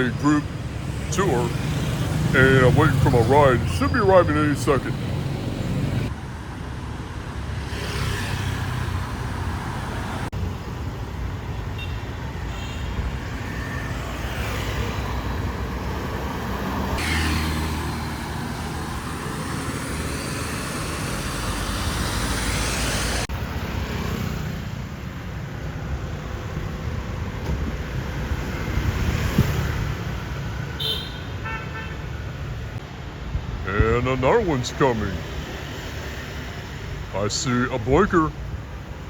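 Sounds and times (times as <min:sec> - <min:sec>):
vehicles passing by: 0:00.0 - 0:39.0.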